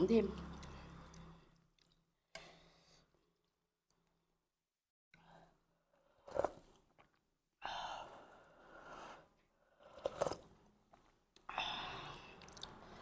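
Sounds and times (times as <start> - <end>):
person chewing and eating soup: 0.4 - 4.4, 5.2 - 13.0.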